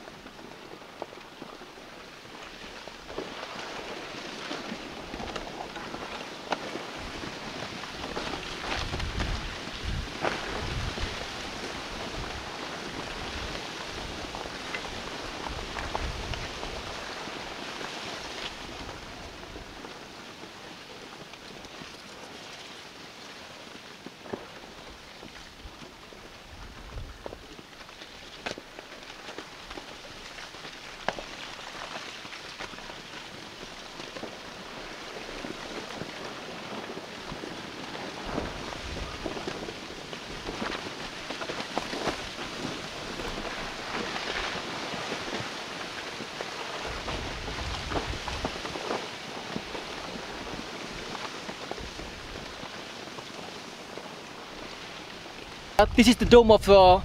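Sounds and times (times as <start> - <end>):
small ticks and crackles: 0.0 - 55.8
rocks tumbling and clattering: 0.0 - 57.0.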